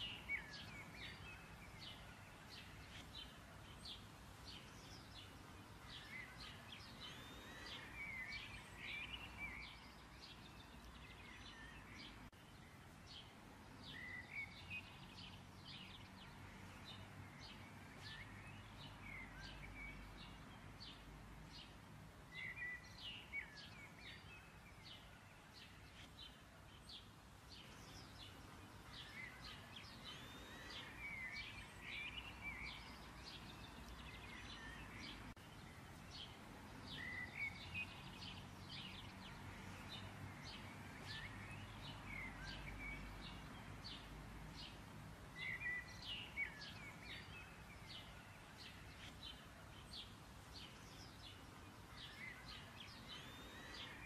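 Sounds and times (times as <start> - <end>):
low steady background noise: 0.0 - 54.0
small birds chirping: 0.0 - 54.0.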